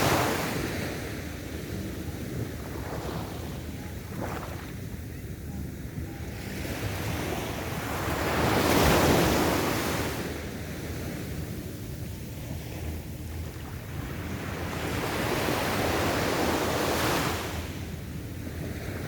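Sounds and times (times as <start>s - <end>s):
sea surf waves breaking: 0.0s - 4.9s, 6.5s - 11.7s, 12.4s - 17.9s.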